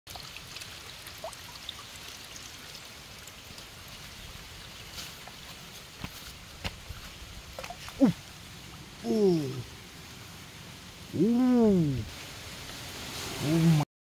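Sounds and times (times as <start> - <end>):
faint trickle of water: 0.1 - 13.8.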